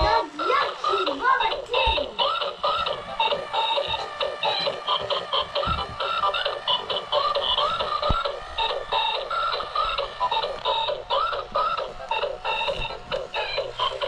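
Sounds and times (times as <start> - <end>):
tinny electronic toy melody: 0.0 - 14.0.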